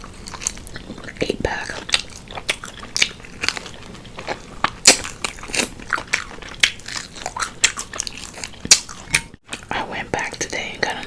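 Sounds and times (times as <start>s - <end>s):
fried chicken crunching: 0.0s - 9.8s.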